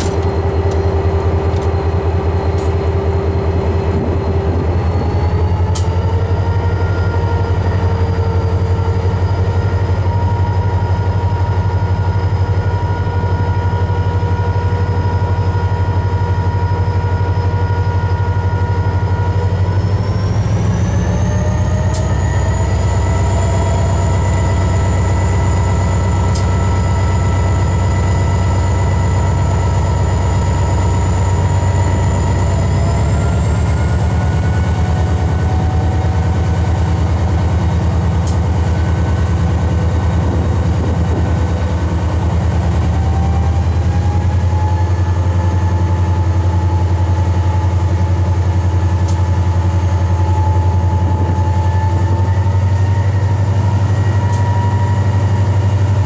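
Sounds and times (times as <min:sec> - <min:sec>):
diesel locomotive engine droning: 0:00.0 - 0:56.0.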